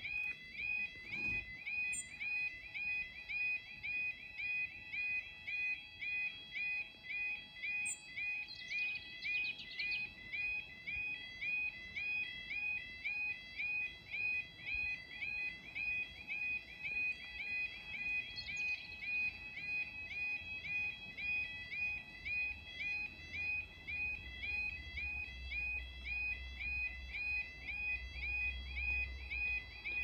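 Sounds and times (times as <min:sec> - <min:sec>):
level crossing alarm warbling: 0:00.0 - 0:30.0.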